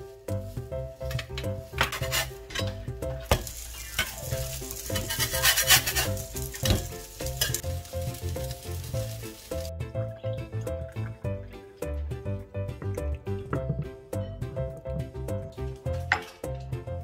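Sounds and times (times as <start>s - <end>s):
patties sizzling in oil: 0.0s - 16.8s.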